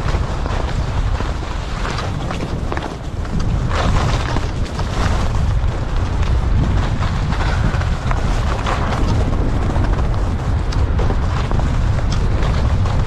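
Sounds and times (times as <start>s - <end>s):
skis sliding over snow: 0.0s - 13.0s.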